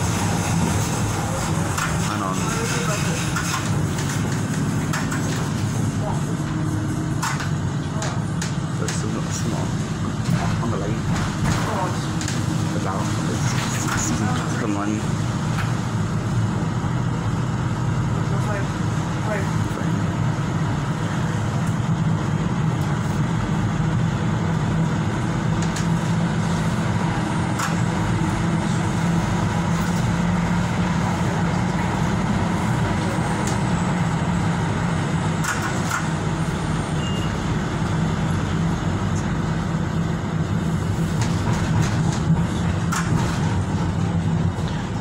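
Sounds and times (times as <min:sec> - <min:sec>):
train rumbling in motion: 0:00.0 - 0:45.0.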